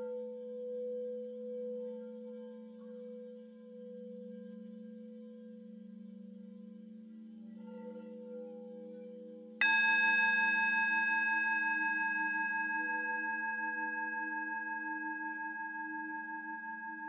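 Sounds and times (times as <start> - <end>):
ringing bell-like tone: 0.0 - 17.0.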